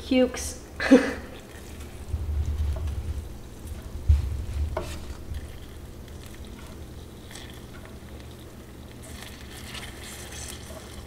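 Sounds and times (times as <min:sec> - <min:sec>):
faint steady hiss: 0:00.0 - 0:11.0
sugar syrup bubbling in pan: 0:01.4 - 0:11.0.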